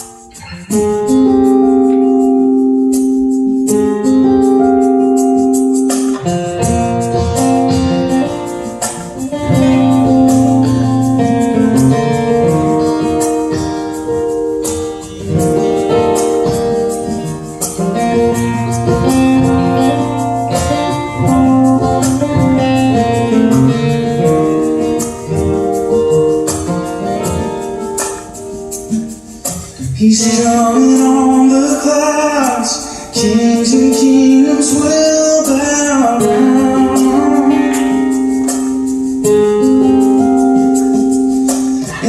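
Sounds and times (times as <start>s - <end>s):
keyboard and guitar chords: 0.0s - 42.0s
shaken percussion beat: 0.0s - 42.0s.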